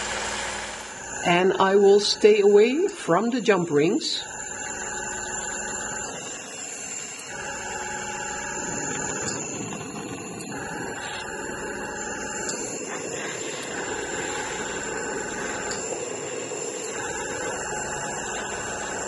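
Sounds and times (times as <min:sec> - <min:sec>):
torch hissing: 0:00.0 - 0:19.0.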